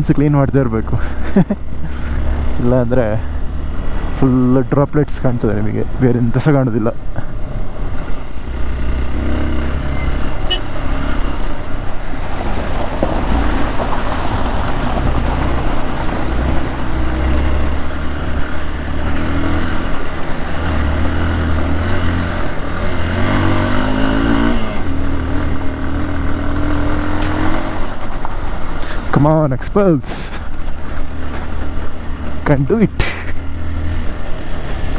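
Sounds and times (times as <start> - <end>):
motorcycle engine revving: 0.0 - 29.3, 30.1 - 34.9.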